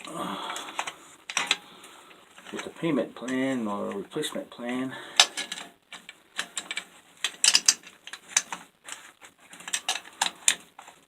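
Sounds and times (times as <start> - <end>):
metal parts clicking and clacking: 0.0 - 1.7, 2.4 - 4.0, 4.7 - 11.0.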